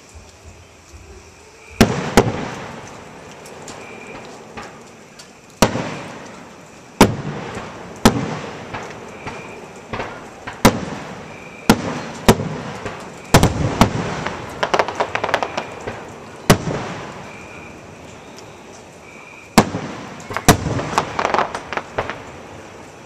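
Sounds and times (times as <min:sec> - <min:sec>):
fireworks booming: 0:00.0 - 0:23.0
fireworks crackling pops: 0:00.0 - 0:23.0.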